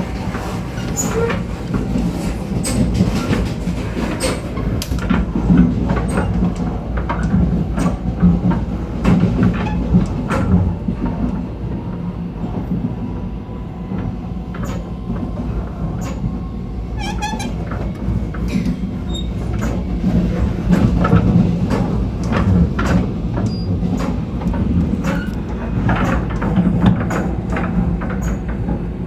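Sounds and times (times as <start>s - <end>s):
train running rumble: 0.0s - 29.0s.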